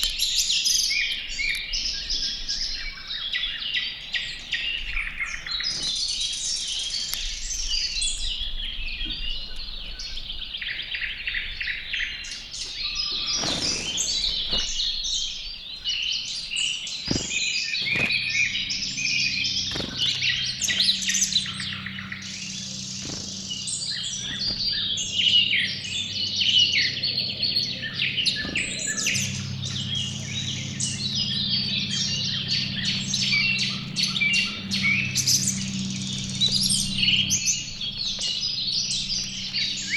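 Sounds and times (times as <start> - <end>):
low steady hum: 0.0 - 39.9
songbirds chirping and singing: 0.0 - 39.9.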